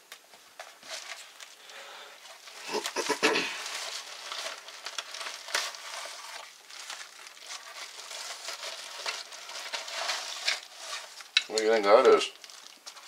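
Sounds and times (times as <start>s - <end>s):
paper envelope rustling: 0.3s - 13.0s.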